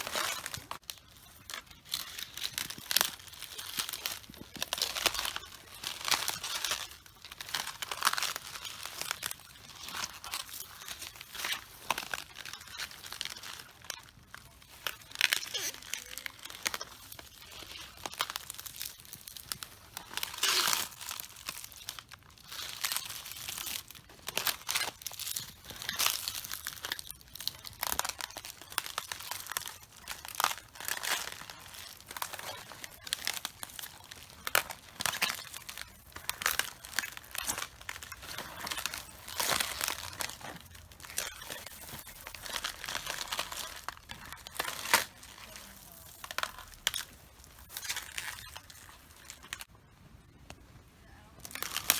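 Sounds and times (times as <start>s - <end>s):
cabbage leaves crunching underfoot: 0.0s - 49.7s.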